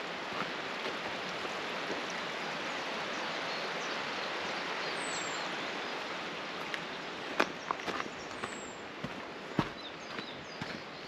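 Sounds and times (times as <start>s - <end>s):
waterfall stream rushing: 0.0s - 10.8s.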